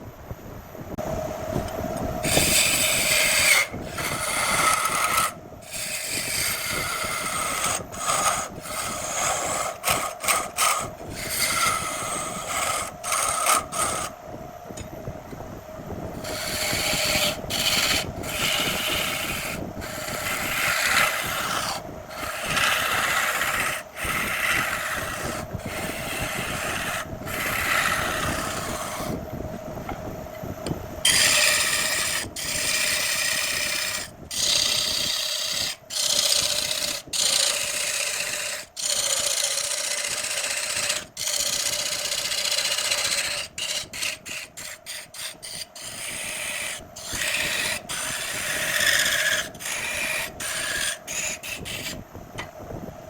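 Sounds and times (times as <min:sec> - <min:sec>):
tool scraping spinning wood: 0:02.2 - 0:14.2, 0:16.1 - 0:29.2, 0:31.0 - 0:52.1
wood lathe humming: 0:02.2 - 0:14.2, 0:16.1 - 0:29.2, 0:31.0 - 0:52.0.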